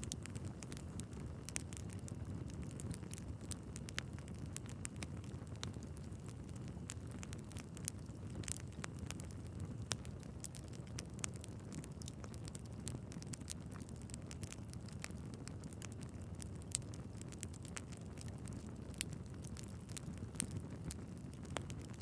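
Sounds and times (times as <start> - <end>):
logs crackling and popping: 0.0 - 22.0
wood fire burning: 0.0 - 22.0.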